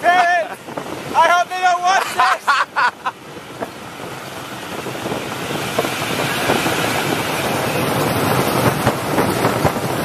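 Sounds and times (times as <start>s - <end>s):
wind buffeting microphone: 0.0s - 10.0s
wooden cart rumbling: 0.0s - 10.0s.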